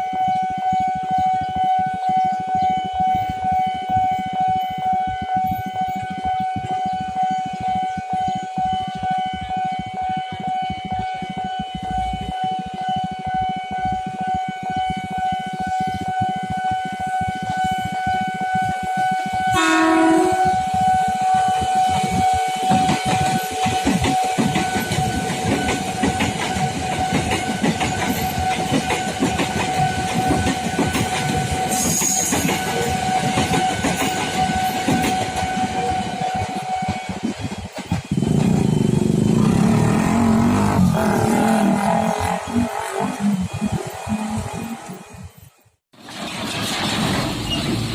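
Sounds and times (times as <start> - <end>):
train horn blast: 0.0 - 37.3, 38.2 - 45.3
electric train rumbling past: 0.0 - 47.9.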